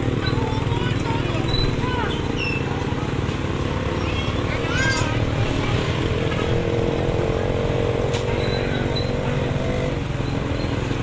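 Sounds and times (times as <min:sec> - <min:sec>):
small vehicle engine running: 0:00.0 - 0:11.0.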